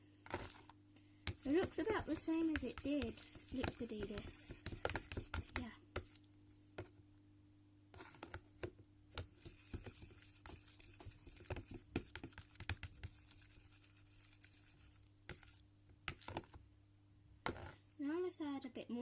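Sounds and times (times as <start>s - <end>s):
faint steady hum: 0.0s - 19.0s
spoon stirring liquid in plastic pot: 0.3s - 6.9s, 8.0s - 16.6s, 17.4s - 17.8s.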